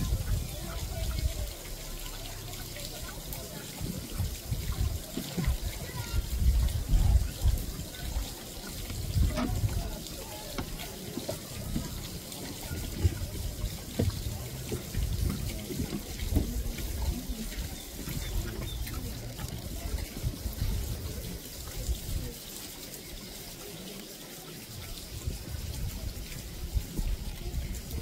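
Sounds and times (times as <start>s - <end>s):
indistinct chatter of onlookers: 0.0s - 28.0s.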